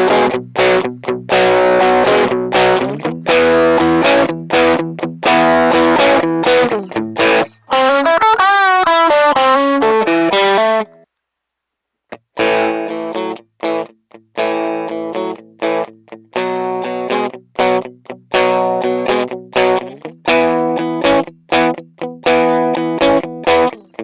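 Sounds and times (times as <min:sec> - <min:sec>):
electric guitar lead with vibrato: 0:00.0 - 0:11.0, 0:12.4 - 0:24.0
overdriven electric guitar chords: 0:00.0 - 0:11.0, 0:12.1 - 0:24.0.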